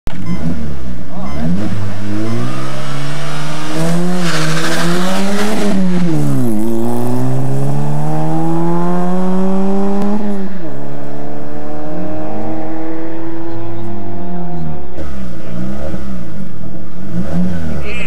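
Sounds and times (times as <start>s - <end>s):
rally car engine revving: 0.1s - 18.0s.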